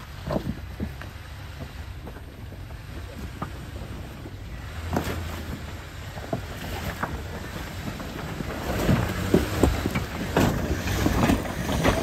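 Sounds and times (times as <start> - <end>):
engine running low: 0.0 - 12.0
knocks and clunks: 0.0 - 12.0.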